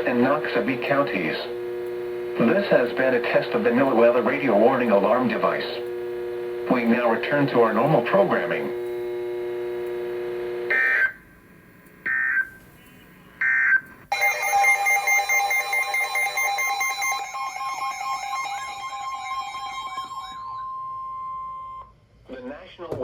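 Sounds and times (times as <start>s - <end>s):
steady buzzing tone: 0.0s - 21.9s.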